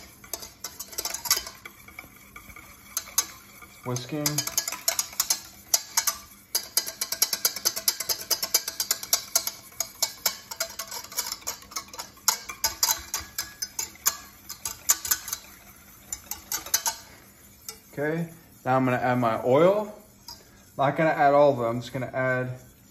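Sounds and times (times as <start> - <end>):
whisk clicking against metal pan: 0.0 - 22.9.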